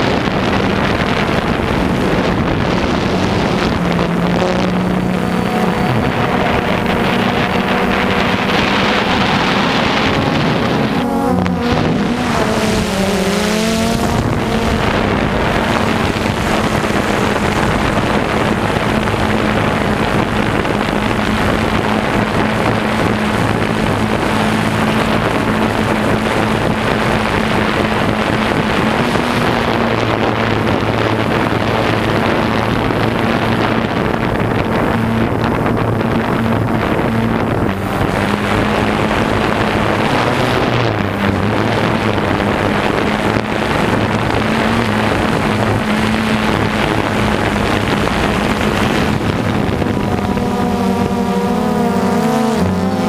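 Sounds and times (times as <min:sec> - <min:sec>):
drone propellers humming: 0:00.0 - 0:53.0
wind noise on microphone: 0:00.0 - 0:53.0.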